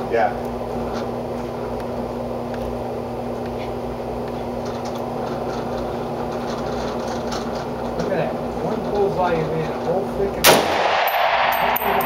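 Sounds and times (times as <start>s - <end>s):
ventilation droning hum: 0.0s - 12.0s.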